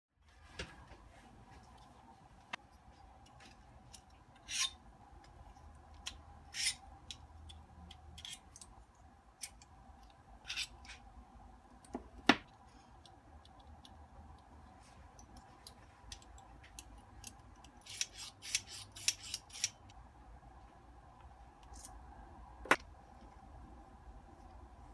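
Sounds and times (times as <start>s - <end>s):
faint steady hum: 0.2s - 24.9s.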